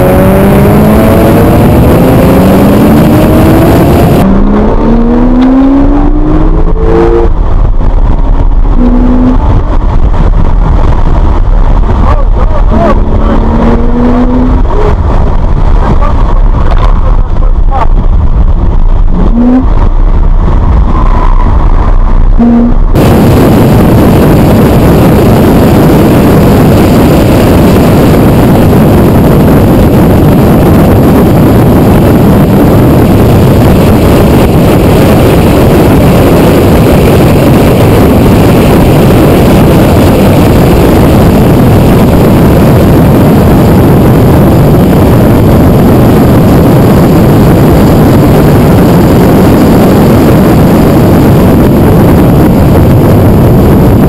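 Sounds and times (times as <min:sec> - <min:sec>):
road noise: 0:00.0 - 0:54.0
wind rush on microphone: 0:00.0 - 0:54.0.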